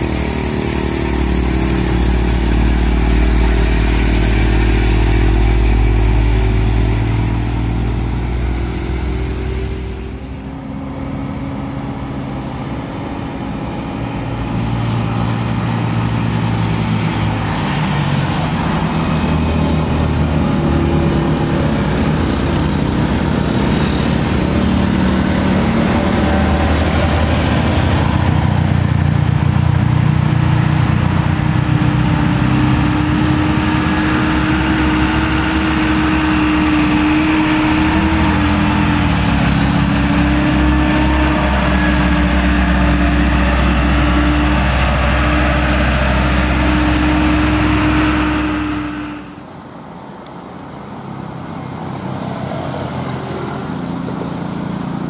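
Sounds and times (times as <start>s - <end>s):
truck engine pulling uphill: 0.0s - 55.0s.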